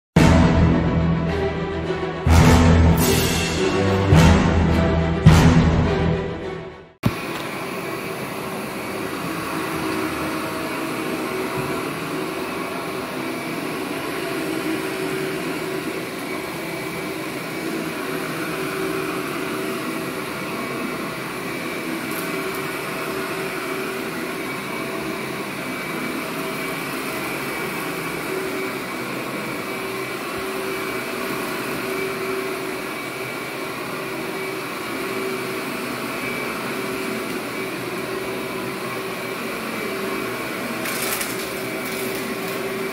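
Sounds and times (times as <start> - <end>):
vacuum cleaner running: 0.2 - 42.9.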